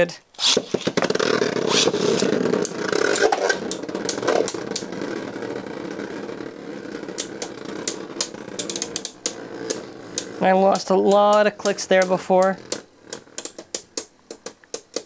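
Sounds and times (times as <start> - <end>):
spinning tops clacking: 0.4 - 15.0
spinning tops whirring: 0.4 - 15.0.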